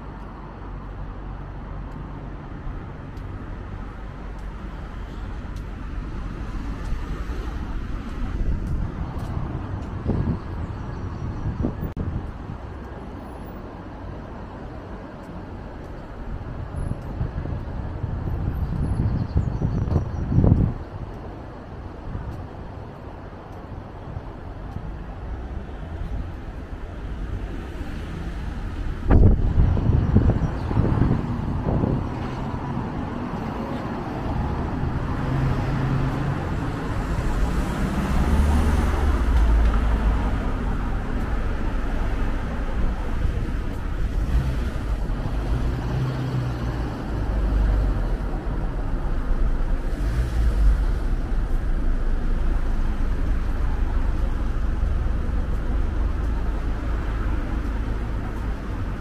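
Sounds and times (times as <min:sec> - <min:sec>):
cars and vans passing: 0:00.0 - 0:59.0.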